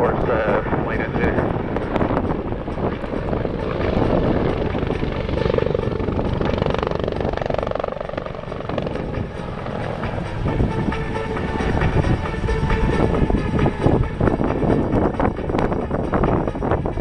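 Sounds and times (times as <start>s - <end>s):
helicopter rotor and turbine: 0.0s - 17.0s.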